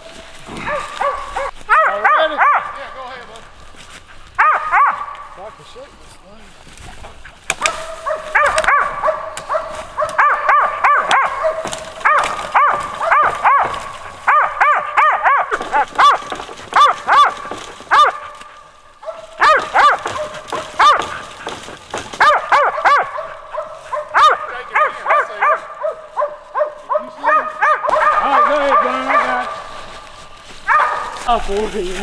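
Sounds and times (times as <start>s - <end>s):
dogs barking: 0.4s - 3.2s, 3.9s - 5.6s, 7.1s - 31.3s.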